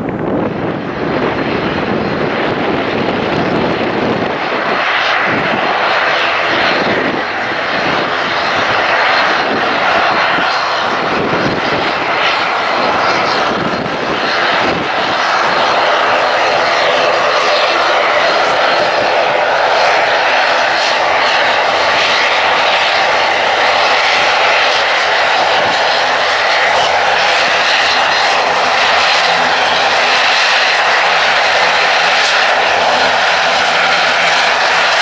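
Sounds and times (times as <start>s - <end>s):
jet engines running: 0.0s - 35.0s.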